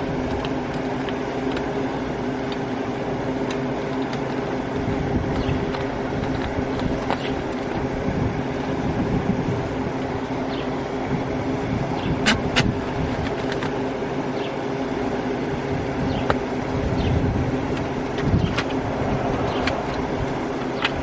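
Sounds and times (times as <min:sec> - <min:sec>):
mechanical running drone: 0:00.0 - 0:21.0.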